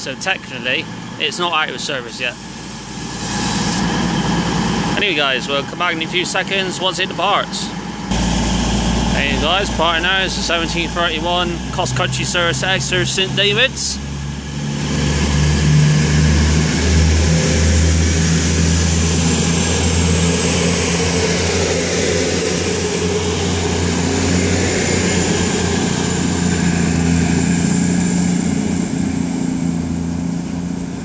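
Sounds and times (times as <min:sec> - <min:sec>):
diesel train engines droning: 0:00.0 - 0:31.0
high whine rising in pitch: 0:00.8 - 0:31.0.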